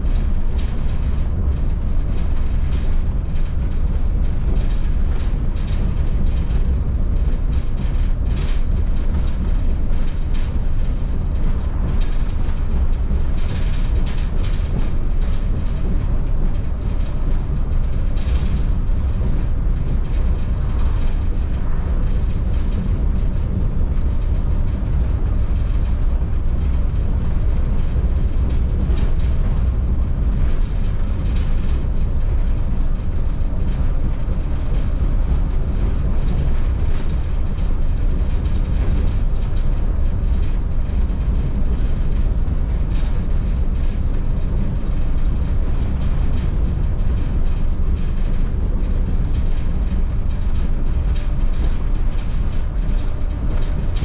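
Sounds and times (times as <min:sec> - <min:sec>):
bus engine rumble: 0:00.0 - 0:54.0
road and tyre noise: 0:00.0 - 0:54.0.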